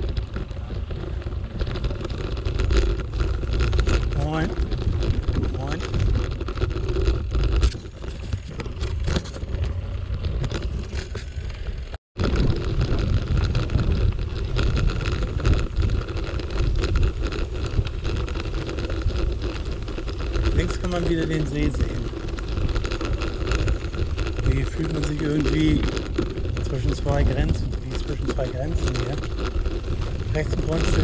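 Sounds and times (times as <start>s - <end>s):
bicycle rattling on dirt path: 0.0s - 31.0s
wind buffeting microphone: 0.0s - 31.0s.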